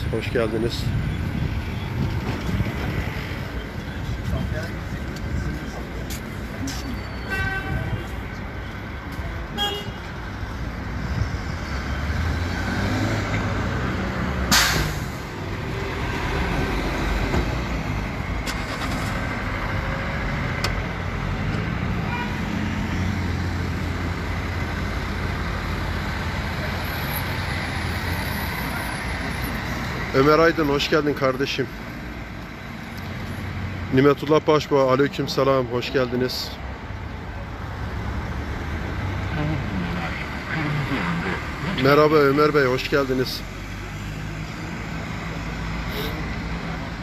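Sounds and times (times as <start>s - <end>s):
passing cars and trucks: 0.0s - 47.0s.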